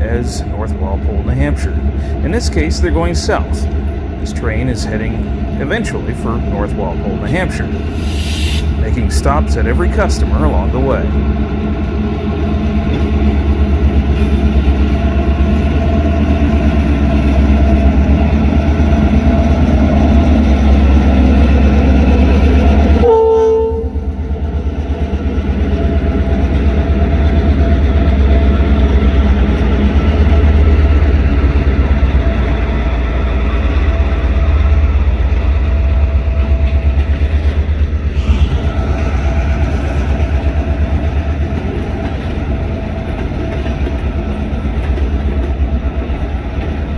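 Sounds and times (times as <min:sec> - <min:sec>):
diesel locomotive engines rumbling: 0:00.0 - 0:46.9.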